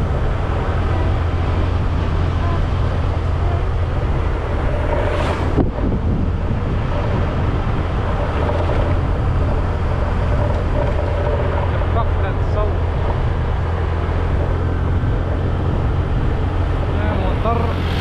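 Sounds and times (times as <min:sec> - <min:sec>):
motorbike engine running: 0:00.0 - 0:18.0
wind on microphone: 0:00.0 - 0:18.0.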